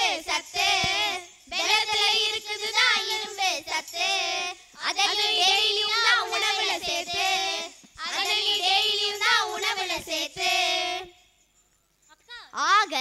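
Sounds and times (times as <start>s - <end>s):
girls singing into microphones: 0.0s - 11.3s.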